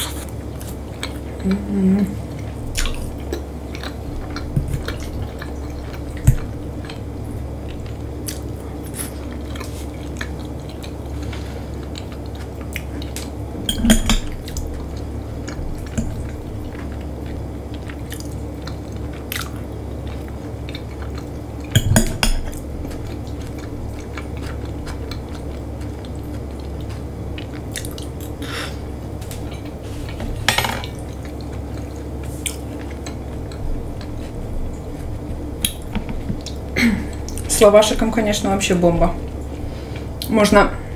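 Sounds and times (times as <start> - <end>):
chewing: 0.0 - 13.4, 14.1 - 21.7, 22.5 - 28.4, 30.8 - 37.5
low hum: 0.0 - 40.9.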